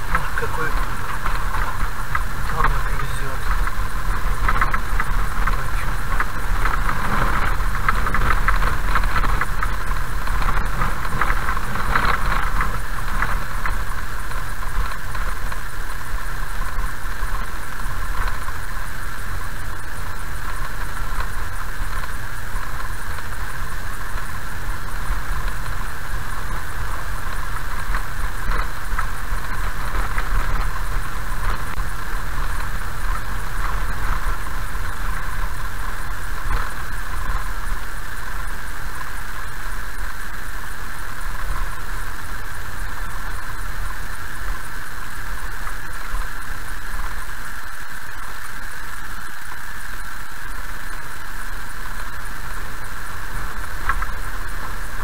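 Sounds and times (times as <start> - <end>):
gravel crackle and rattle: 0.0 - 55.0
tyre and engine noise: 0.0 - 55.0.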